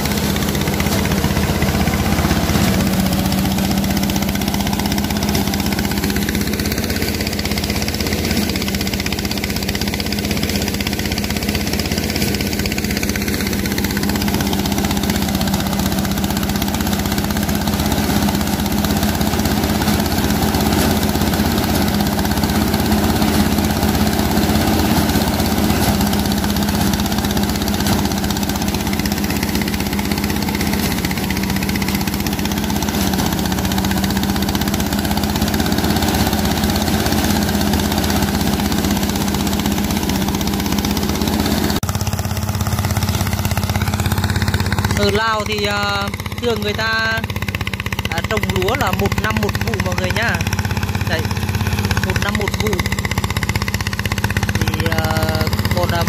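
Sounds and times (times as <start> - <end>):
threshing machine running: 0.0 - 56.0.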